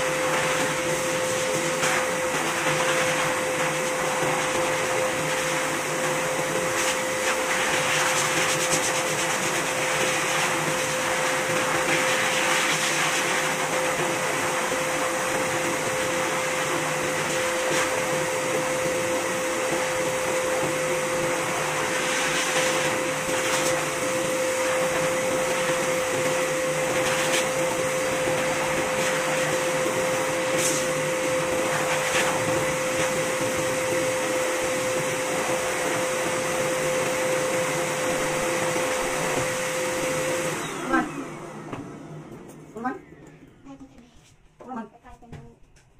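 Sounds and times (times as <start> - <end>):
pet grooming dryer running: 0.0 - 45.4.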